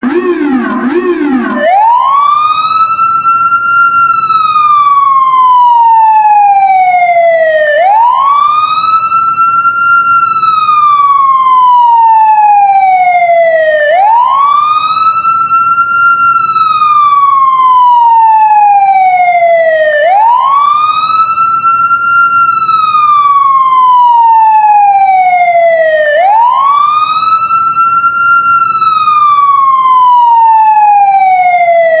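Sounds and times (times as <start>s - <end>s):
police siren wailing: 0.0s - 32.0s.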